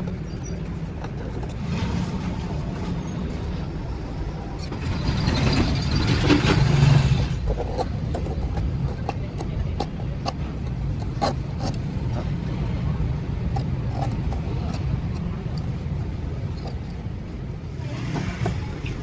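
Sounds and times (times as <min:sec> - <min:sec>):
motor rumbling: 0:00.0 - 0:19.0.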